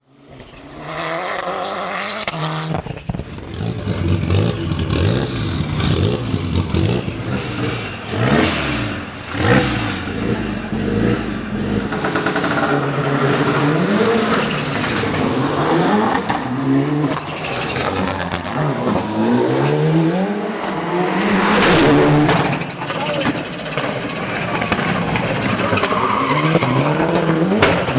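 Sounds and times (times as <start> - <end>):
rally car engine revving: 0.2 - 27.9.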